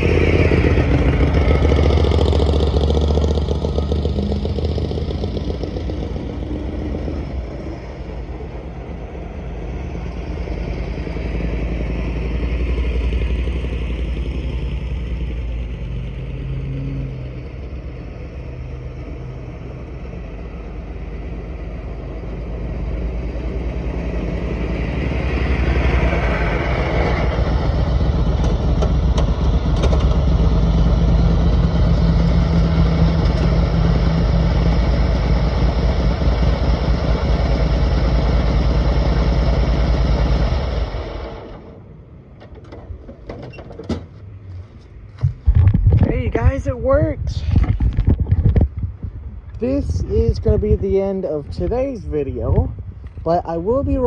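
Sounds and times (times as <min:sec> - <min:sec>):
riding lawnmower engine: 0:00.0 - 0:54.0.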